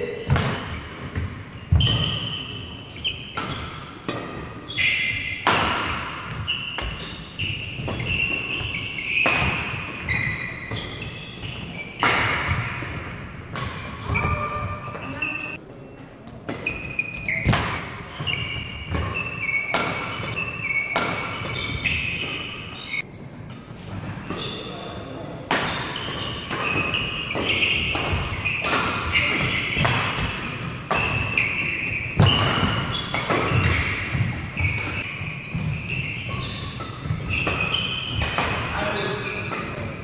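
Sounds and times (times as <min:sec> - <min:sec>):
rackets hitting shuttlecock: 0:00.3 - 0:15.4, 0:16.5 - 0:23.7, 0:25.4 - 0:40.0
shoes squeaking on court: 0:00.6 - 0:23.1, 0:24.2 - 0:24.9, 0:25.6 - 0:40.0.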